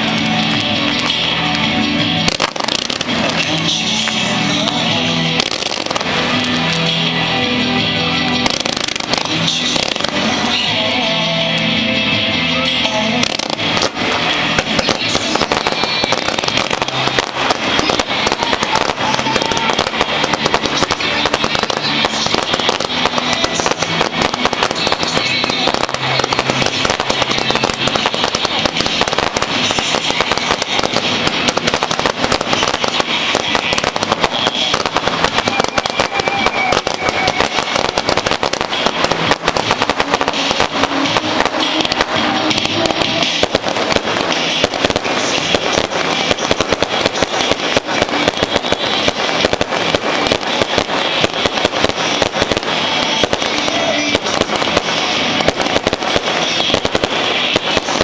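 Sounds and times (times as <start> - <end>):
fireworks crackling and popping: 0.0 - 58.0.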